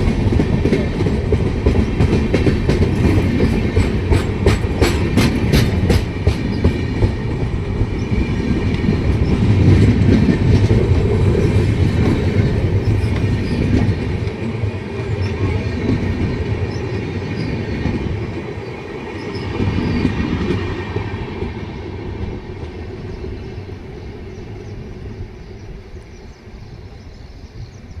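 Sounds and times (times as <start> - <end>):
train rumble: 0.0 - 28.0
train wheels clacking on rails: 0.0 - 28.0.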